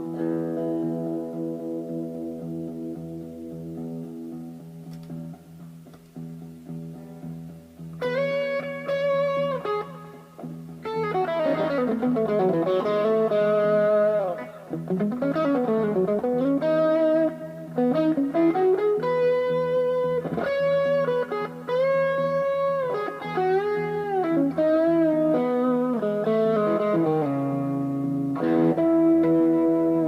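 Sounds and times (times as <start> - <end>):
electric guitar lead line: 0.0 - 30.0.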